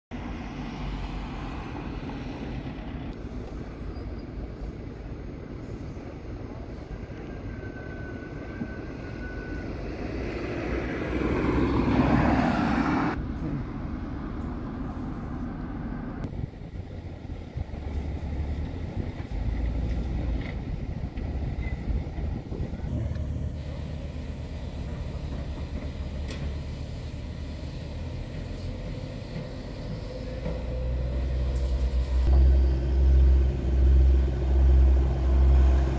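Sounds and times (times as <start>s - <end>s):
outdoor noise haze: 0.1s - 35.9s
heavy machinery engine rumble: 0.2s - 35.9s.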